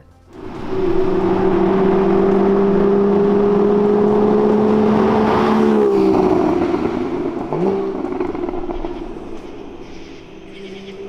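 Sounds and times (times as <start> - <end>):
sports car engine revving: 0.3 - 11.0.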